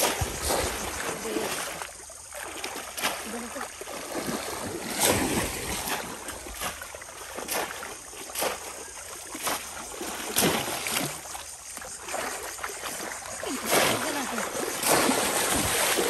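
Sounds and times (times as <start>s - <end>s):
fish traps splashing into water: 0.0s - 16.0s
water sloshing from wading: 0.0s - 16.0s.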